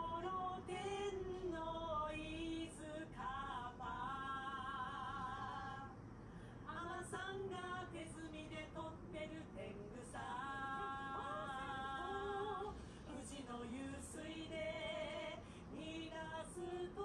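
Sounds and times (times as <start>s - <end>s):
woman singing with vibrato: 0.0s - 6.0s, 6.7s - 17.0s.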